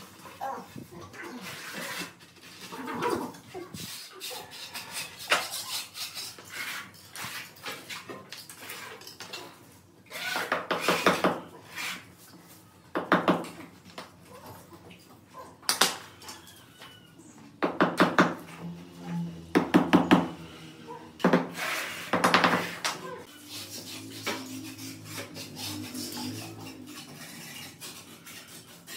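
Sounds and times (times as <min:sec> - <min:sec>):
metal tools scraping on tiles: 0:00.0 - 0:13.6, 0:18.4 - 0:28.9.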